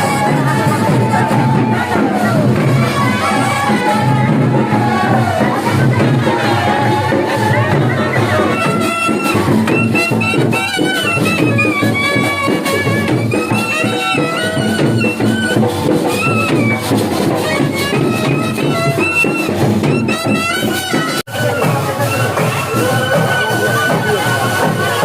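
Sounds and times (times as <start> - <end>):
steady drum beat: 0.0 - 25.0.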